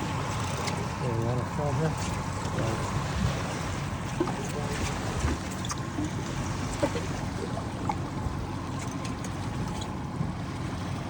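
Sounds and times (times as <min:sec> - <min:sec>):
boat engine rumbling: 0:00.0 - 0:11.0
water around the hull: 0:00.0 - 0:11.0.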